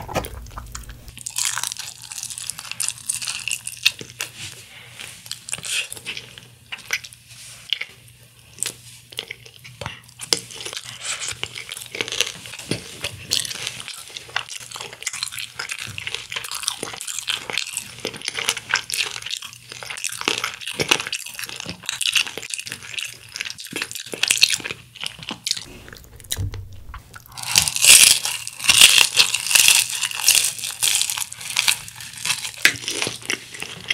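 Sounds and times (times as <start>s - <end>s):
person chewing crispy food: 0.1s - 25.7s, 27.2s - 33.9s.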